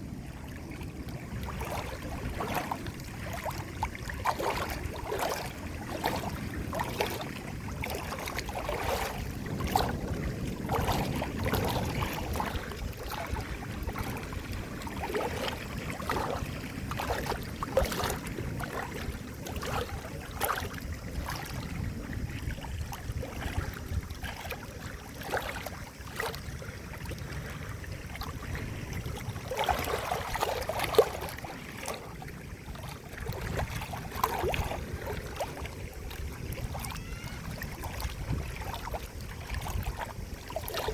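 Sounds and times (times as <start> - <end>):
small water splashes and plops: 0.0 - 40.9
water gurgling and lapping: 0.0 - 40.9.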